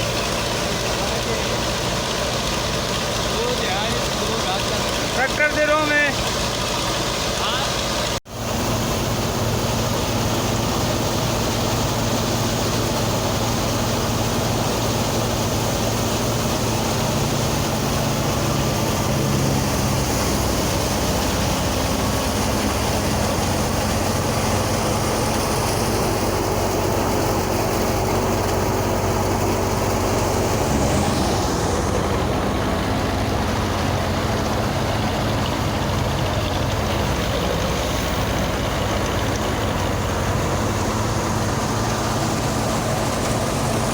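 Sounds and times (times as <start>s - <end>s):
harvesting machine engine running: 0.0s - 43.9s.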